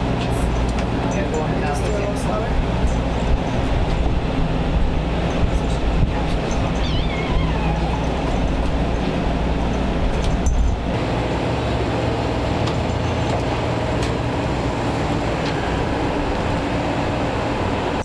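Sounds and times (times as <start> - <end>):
machinery rumbling with low hum: 0.0 - 18.0.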